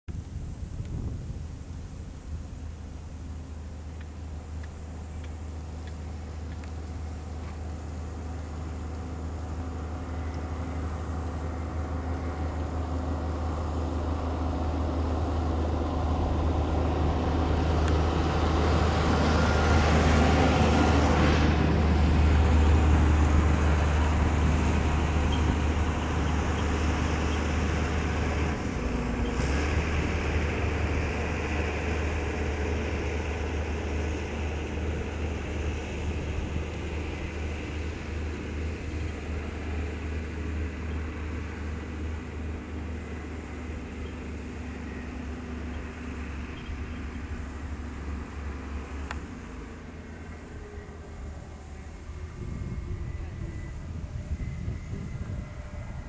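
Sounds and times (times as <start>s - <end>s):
vehicle engine rumble: 0.1s - 56.0s.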